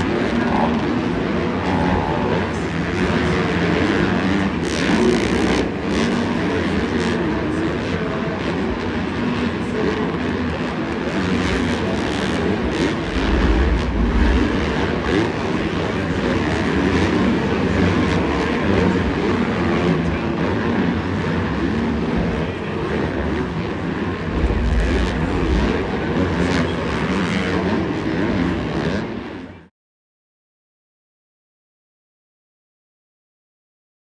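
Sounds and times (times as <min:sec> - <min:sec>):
dirt bike engines racing: 0:00.0 - 0:29.5.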